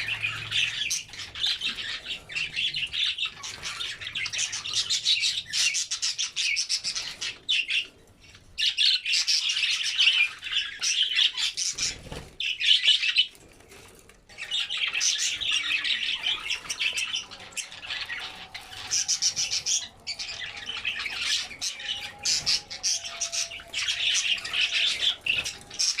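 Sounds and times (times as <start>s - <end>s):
budgerigars chattering and warbling: 0.0s - 13.3s, 14.3s - 26.0s.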